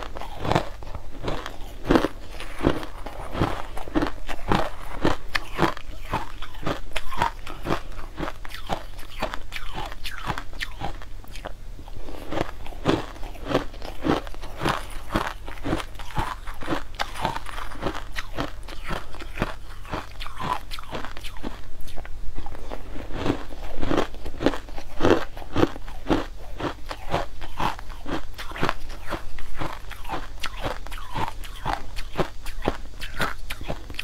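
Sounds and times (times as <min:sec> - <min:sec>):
crunching ice between teeth: 0:00.1 - 0:34.0.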